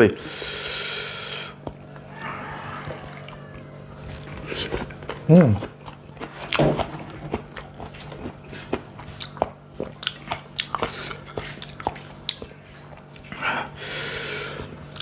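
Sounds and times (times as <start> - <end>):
person chewing food: 1.5 - 15.0.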